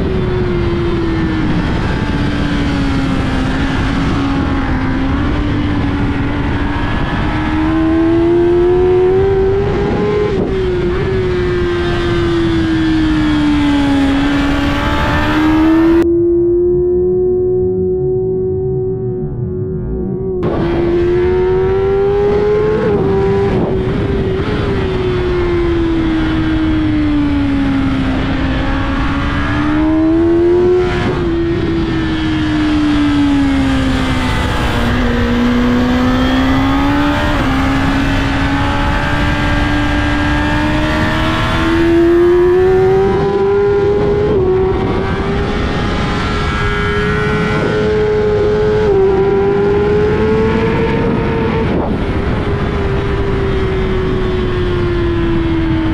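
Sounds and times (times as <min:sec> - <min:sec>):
wind rush: 0:00.0 - 0:16.1, 0:17.4 - 0:55.9
motorcycle engine at race pace: 0:00.0 - 0:55.9.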